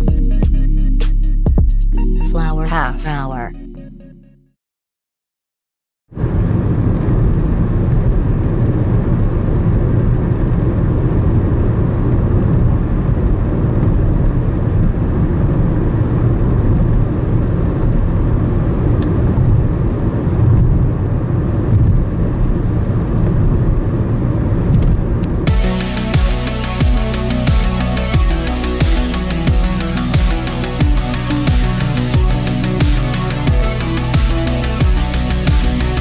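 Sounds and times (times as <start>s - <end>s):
car road and engine rumble: 6.2s - 36.0s.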